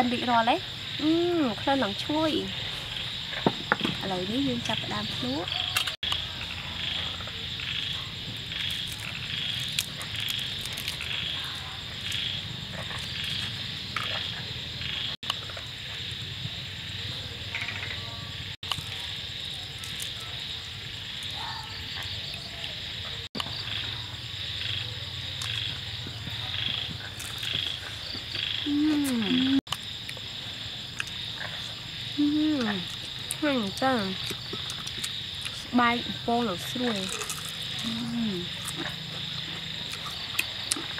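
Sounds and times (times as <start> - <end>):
frogs and insects trilling: 0.0 - 40.9.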